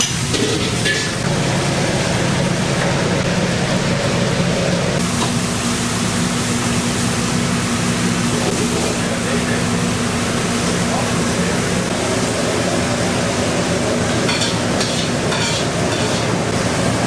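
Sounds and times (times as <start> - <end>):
gas burners and ventilation roaring: 0.0 - 17.0.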